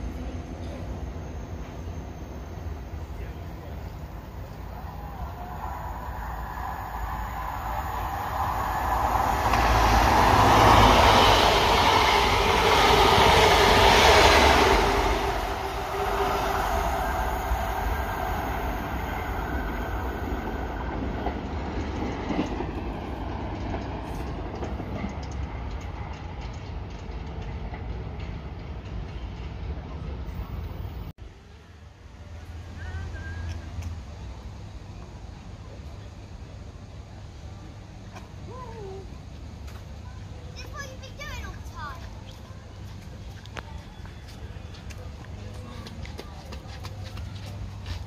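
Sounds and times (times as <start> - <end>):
diesel train passing at speed: 0.0 - 38.5, 39.1 - 48.0.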